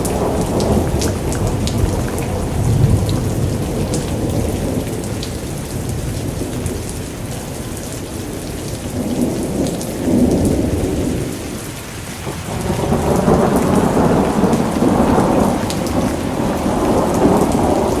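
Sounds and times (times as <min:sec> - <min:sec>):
rolling thunder: 0:00.0 - 0:07.0, 0:08.9 - 0:18.0
steady rain: 0:00.0 - 0:18.0.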